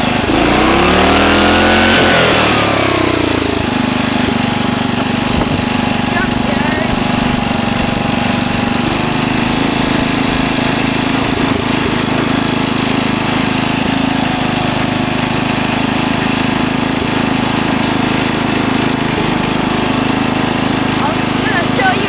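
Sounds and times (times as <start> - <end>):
lawn tractor engine running: 0.0 - 22.0.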